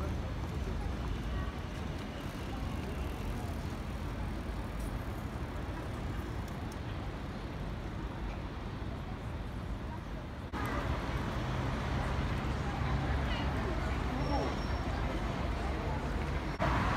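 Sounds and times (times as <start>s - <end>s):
road traffic rumble: 0.0s - 16.9s.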